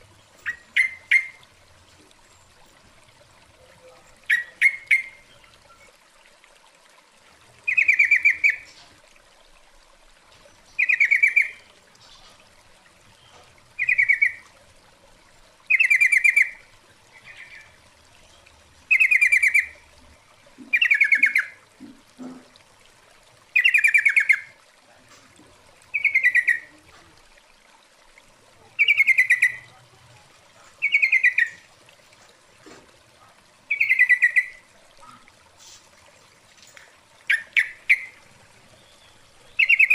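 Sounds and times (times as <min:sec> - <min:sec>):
bird bubbling calls: 0:00.0 - 0:09.2, 0:10.4 - 0:27.5, 0:28.2 - 0:39.9.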